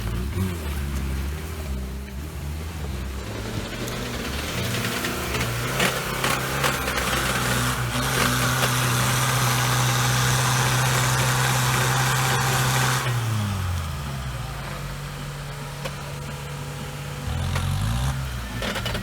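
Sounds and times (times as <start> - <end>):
vehicle engine at raised revs: 0.0 - 19.0.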